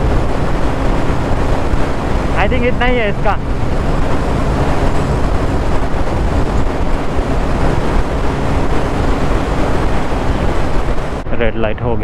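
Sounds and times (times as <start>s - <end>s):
motorcycle engine drone: 0.0s - 12.0s
wind rushing on microphone: 0.0s - 12.0s.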